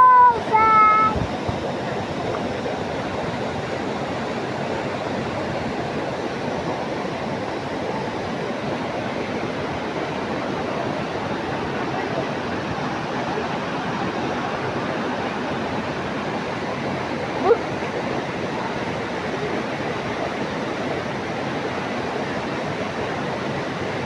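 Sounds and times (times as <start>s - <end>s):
waterfall roar: 0.0s - 24.0s.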